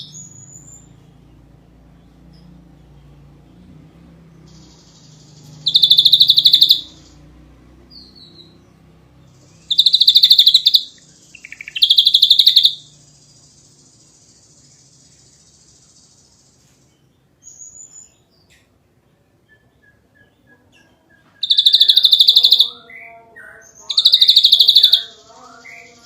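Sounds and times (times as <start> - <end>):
bird singing rapid bursts: 0.0 - 26.0.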